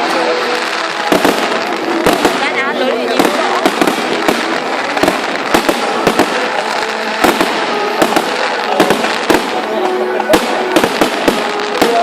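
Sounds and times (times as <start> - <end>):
firework shells bursting: 0.2 - 12.0.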